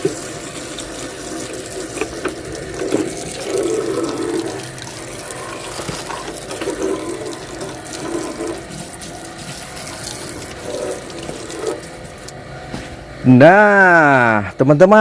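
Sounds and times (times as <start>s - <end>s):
tap water running and splashing: 0.0s - 12.4s.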